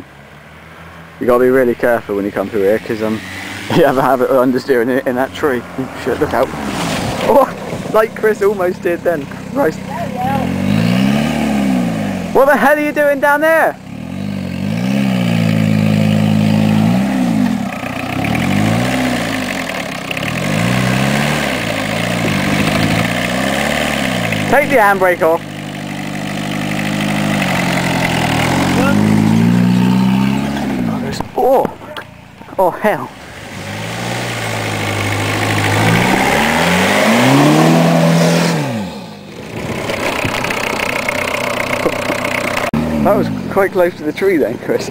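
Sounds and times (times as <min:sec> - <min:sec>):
diesel car engine revving: 0:00.0 - 0:44.9.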